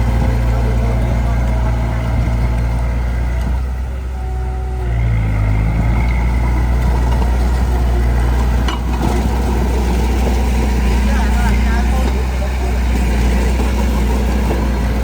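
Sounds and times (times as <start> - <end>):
diesel engine revving: 0.0 - 15.0.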